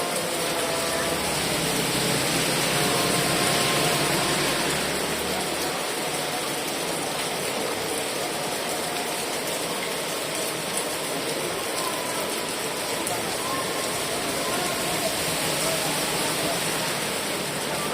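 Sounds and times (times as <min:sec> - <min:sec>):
heavy rain hissing: 0:00.0 - 0:17.9.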